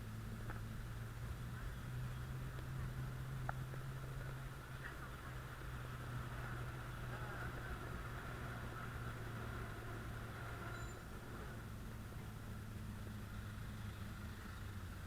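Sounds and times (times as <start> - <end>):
street traffic engine hum: 0.0 - 15.0.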